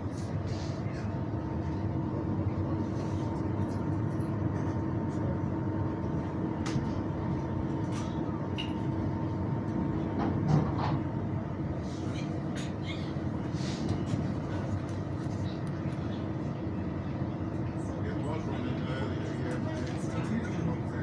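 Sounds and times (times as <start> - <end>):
tram running hum: 0.0 - 21.0.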